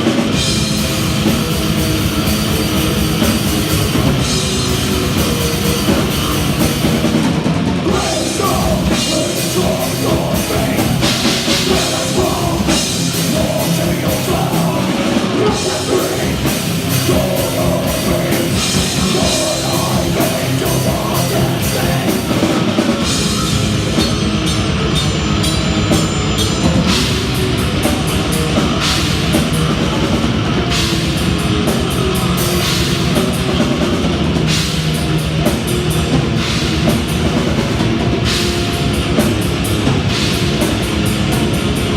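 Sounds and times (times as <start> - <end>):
death metal band playing live: 0.0 - 41.9.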